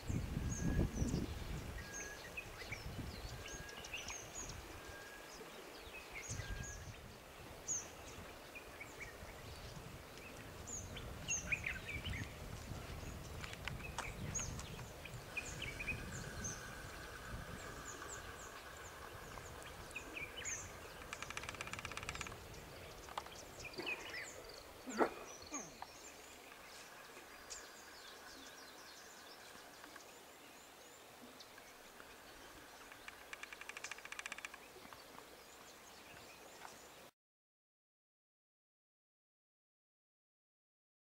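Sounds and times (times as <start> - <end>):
wild birds chirping: 0.0 - 37.1.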